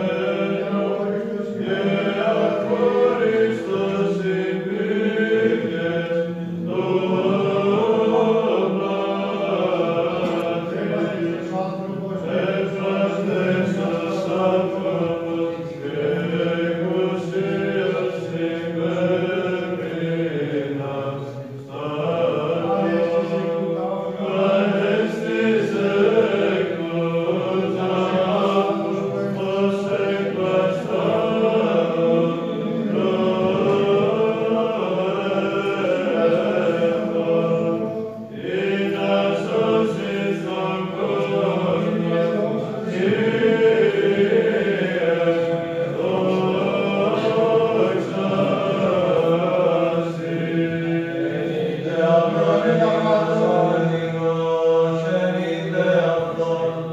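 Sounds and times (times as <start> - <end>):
male choir chanting: 0.0 - 56.9.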